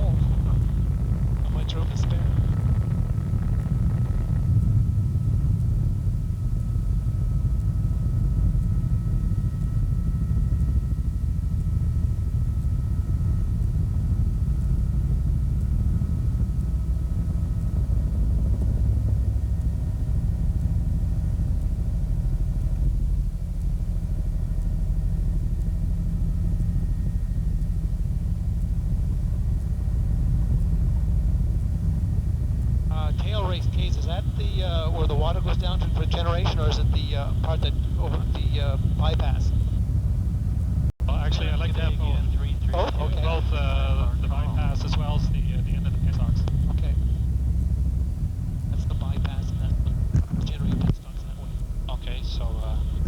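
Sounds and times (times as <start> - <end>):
helicopter rotor and engine rumble: 0.0 - 53.0.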